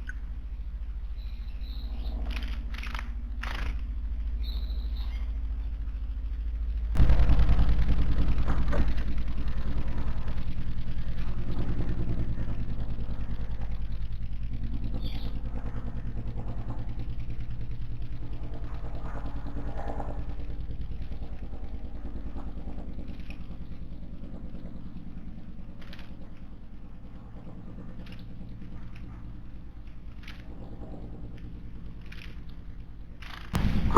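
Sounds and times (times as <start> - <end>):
engine humming: 0.0 - 33.9.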